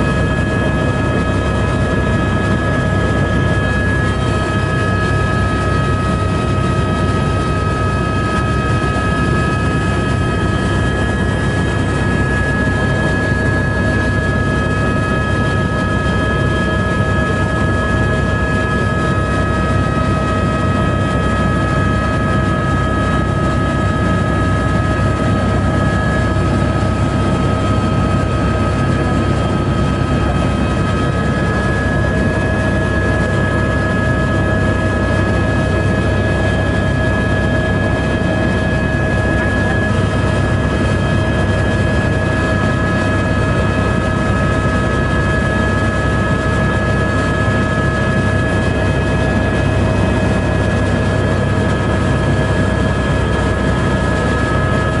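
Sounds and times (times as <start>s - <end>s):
helicopter rotor and engine noise: 0.0s - 55.0s.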